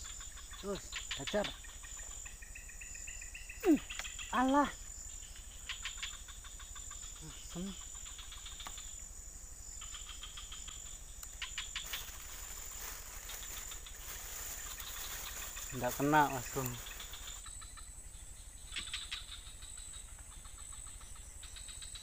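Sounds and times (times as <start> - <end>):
insects droning: 0.0 - 22.0
rapid insect chirping: 0.0 - 22.0.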